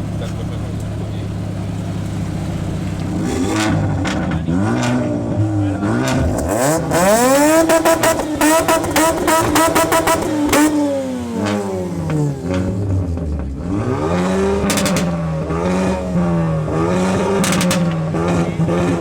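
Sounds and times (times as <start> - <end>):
rotary engine revving with crackles: 0.0 - 19.0.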